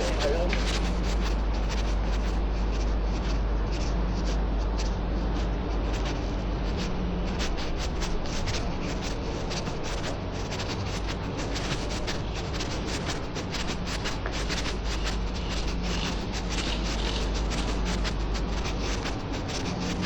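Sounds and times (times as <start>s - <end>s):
low city rumble: 0.0s - 20.0s.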